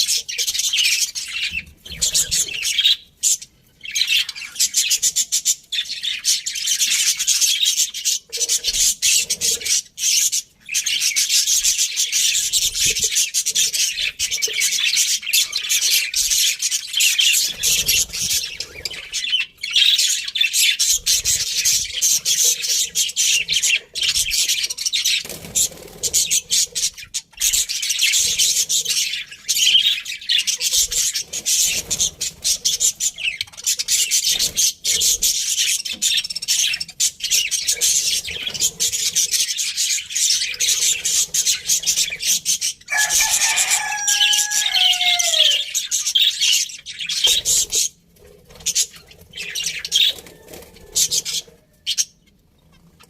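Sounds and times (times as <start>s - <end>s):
budgerigars chattering and warbling: 0.0s - 53.0s.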